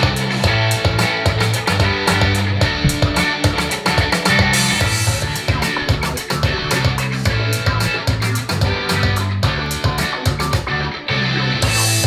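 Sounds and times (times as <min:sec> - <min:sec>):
music with drum beat and bass: 0:00.0 - 0:10.8, 0:11.6 - 0:12.0.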